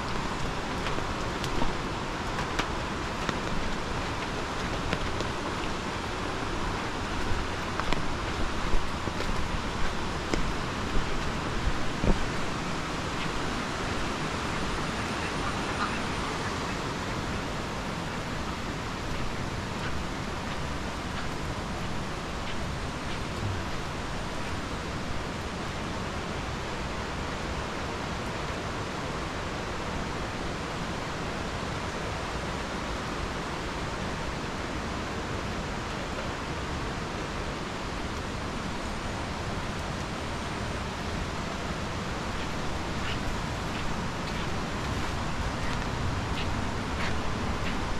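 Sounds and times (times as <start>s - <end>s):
falling water rushing: 0.0s - 47.9s.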